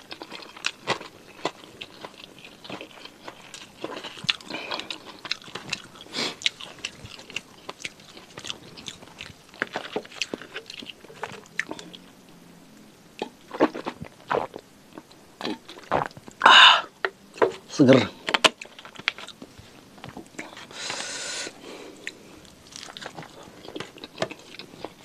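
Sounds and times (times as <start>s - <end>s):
chewing crunchy food: 0.0s - 12.4s, 13.2s - 16.4s, 18.1s - 20.8s, 21.8s - 25.0s.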